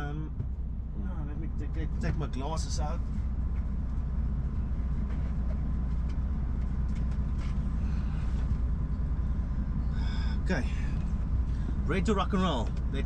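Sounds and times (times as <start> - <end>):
diesel lorry engine idling: 0.0 - 13.0.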